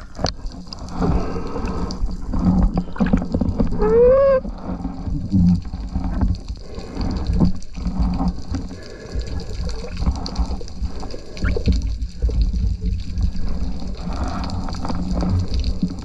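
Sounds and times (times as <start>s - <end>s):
water sloshing and gurgling: 0.0s - 16.0s.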